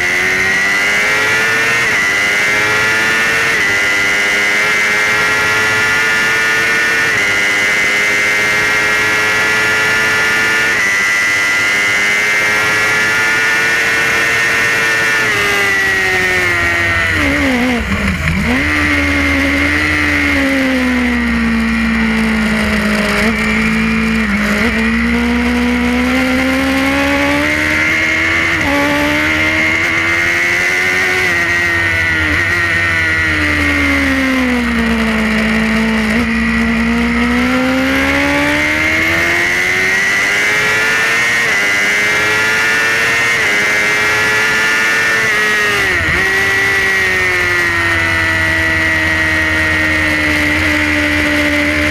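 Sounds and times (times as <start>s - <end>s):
gear changes: 0.0s - 51.9s
racing motorcycle engine: 0.0s - 51.9s.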